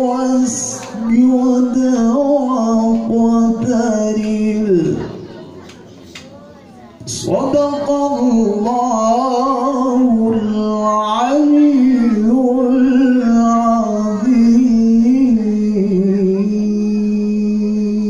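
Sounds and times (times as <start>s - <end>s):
man reciting melodically: 0.0s - 5.6s, 7.0s - 18.0s.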